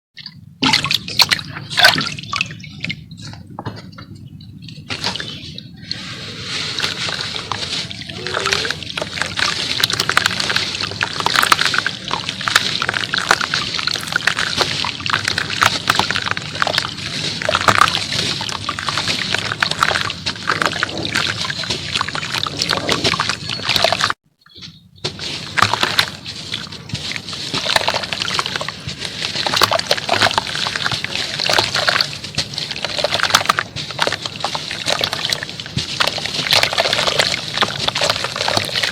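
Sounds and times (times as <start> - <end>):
wet cement crackling and sloshing: 0.2 - 38.9.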